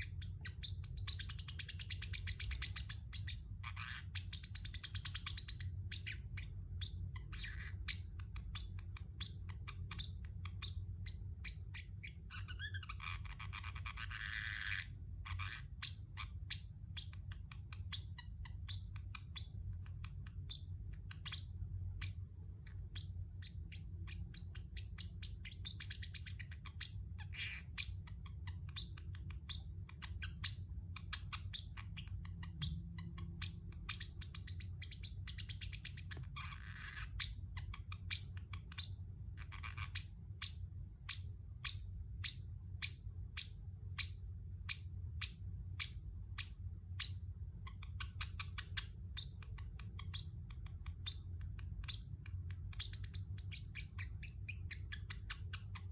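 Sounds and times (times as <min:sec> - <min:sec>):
parrotlet chirping: 0:00.0 - 0:55.9.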